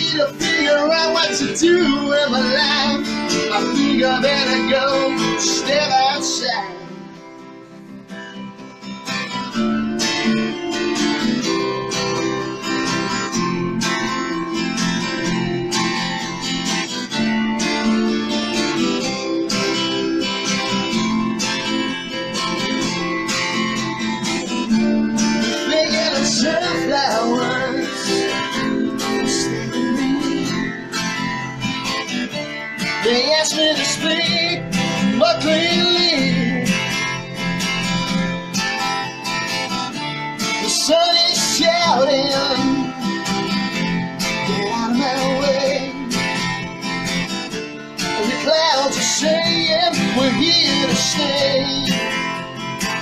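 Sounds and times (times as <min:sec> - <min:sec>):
acoustic guitars strumming: 0:00.0 - 0:53.0
bending guitar melody: 0:00.0 - 0:53.0.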